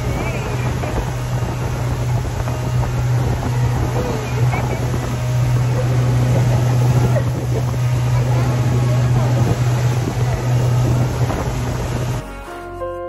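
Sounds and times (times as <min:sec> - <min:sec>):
wind buffeting microphone: 0:00.0 - 0:12.2
speedboat engine humming: 0:00.0 - 0:13.0.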